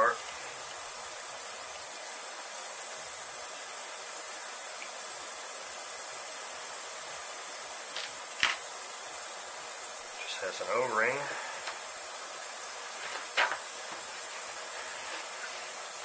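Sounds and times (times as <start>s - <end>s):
ultrasonic cleaner hissing: 0.0s - 16.0s.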